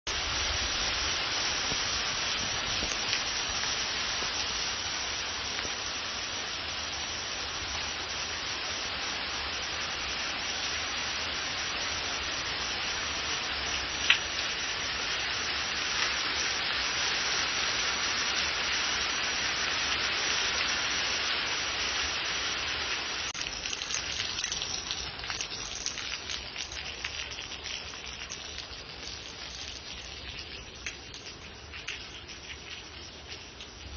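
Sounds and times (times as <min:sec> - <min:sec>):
heavy rain on stone paving: 0:00.0 - 0:33.9.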